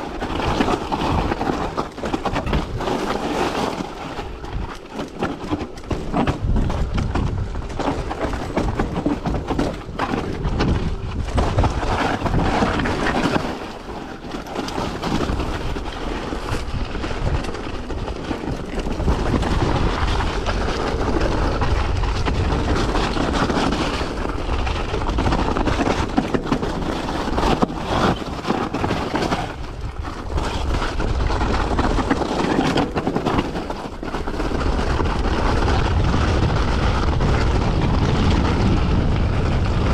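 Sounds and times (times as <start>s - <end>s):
bike knocks and rattles: 0.0s - 39.9s
tyres crunching over gravel: 0.0s - 39.9s
wind rumble on microphone: 0.0s - 39.9s.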